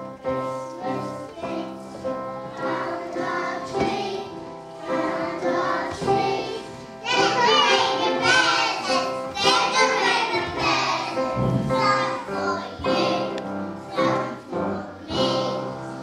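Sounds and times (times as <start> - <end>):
children singing: 0.0 - 16.0
musical accompaniment: 0.0 - 16.0.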